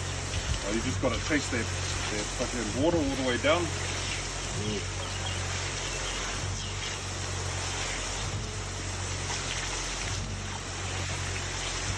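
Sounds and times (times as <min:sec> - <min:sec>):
pump engine humming: 0:00.0 - 0:11.9
water flowing hiss: 0:00.0 - 0:11.9.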